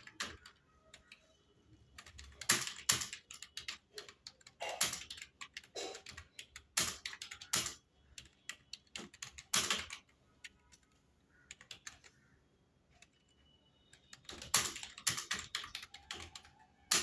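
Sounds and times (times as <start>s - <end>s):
computer keyboard typing: 0.0s - 17.0s.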